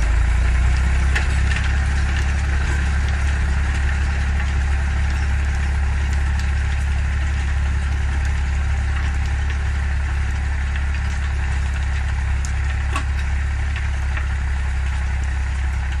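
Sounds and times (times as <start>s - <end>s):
rotary tiller churning soil: 0.0s - 16.0s
tractor diesel engine under load: 0.0s - 16.0s.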